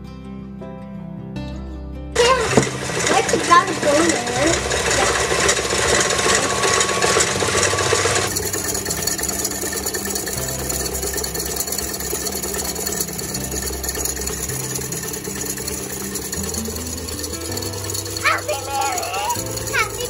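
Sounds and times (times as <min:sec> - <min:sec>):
stand mixer whipping liquid: 0:02.2 - 0:20.0.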